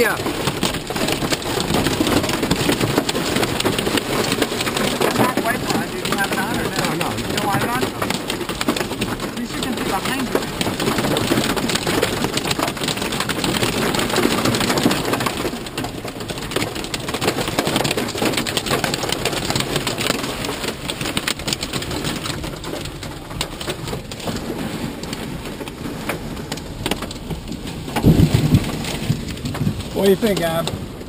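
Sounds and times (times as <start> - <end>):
heavy rain on car roof: 0.0 - 31.0.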